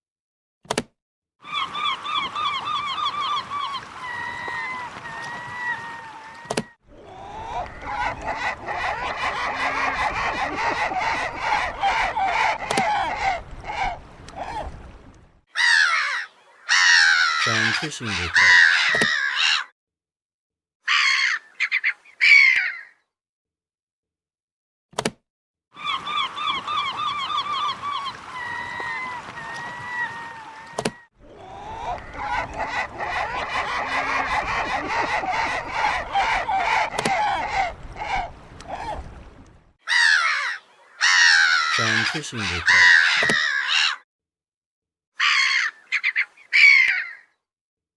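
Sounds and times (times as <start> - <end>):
flock of gulls calling: 1.4 - 15.0, 15.6 - 19.7, 20.9 - 23.0, 25.8 - 44.0, 45.2 - 47.3.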